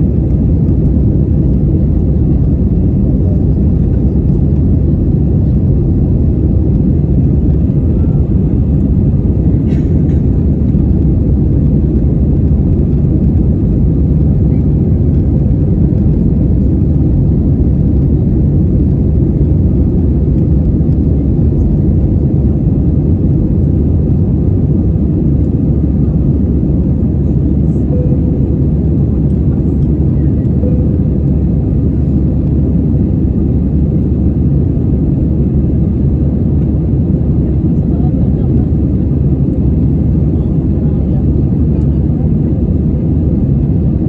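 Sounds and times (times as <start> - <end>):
jet engines roaring in cabin: 0.0 - 44.0.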